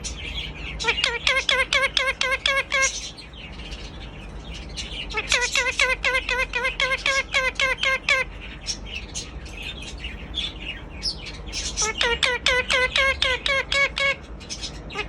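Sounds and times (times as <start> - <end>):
parrot chirping: 0.0 - 15.0
parrot squawking: 0.0 - 15.0.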